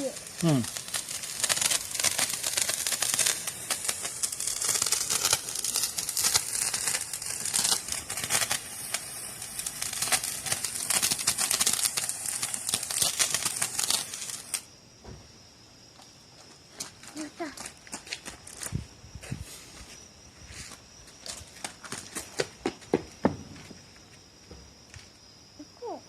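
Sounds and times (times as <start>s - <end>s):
handheld firework hissing and crackling: 0.0s - 14.8s, 16.0s - 24.3s.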